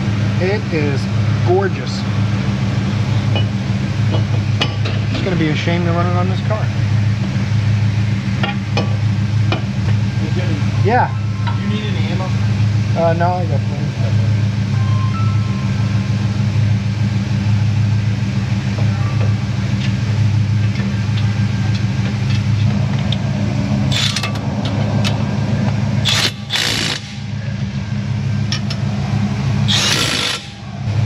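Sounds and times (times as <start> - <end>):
low mechanical drone: 0.0 - 31.0.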